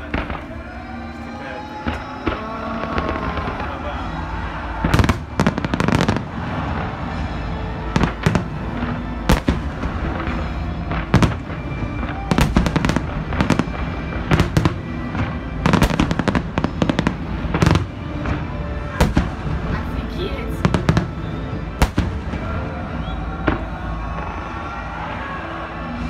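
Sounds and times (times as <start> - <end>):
fireworks bangs and cracks: 0.0 - 26.0
music: 0.0 - 26.0.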